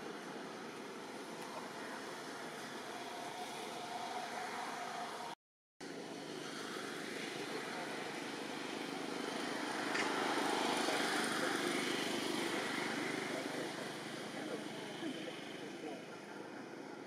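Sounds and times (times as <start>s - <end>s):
distant engine noise: 0.0s - 17.0s.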